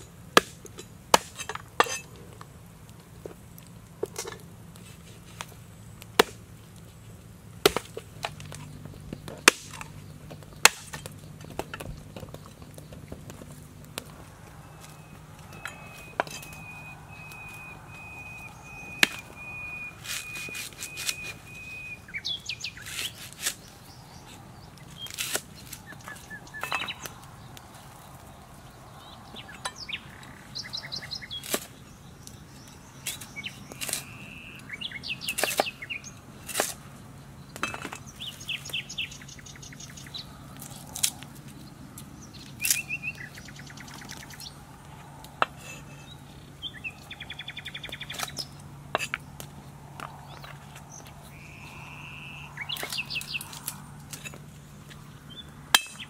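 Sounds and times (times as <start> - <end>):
birds chirping: 5.4 - 56.0.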